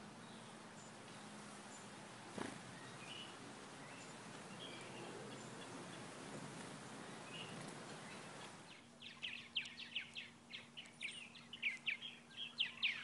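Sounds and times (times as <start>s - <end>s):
steady outdoor hiss: 0.0s - 13.0s
faint bird chirps: 0.2s - 13.0s.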